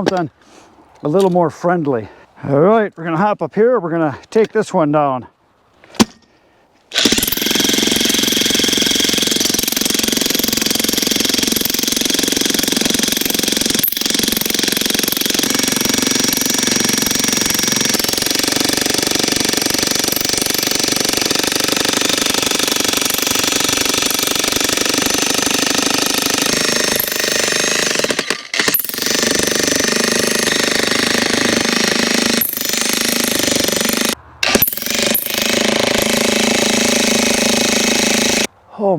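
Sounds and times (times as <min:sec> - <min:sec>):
jackhammer pounding wood: 0:07.0 - 0:38.5.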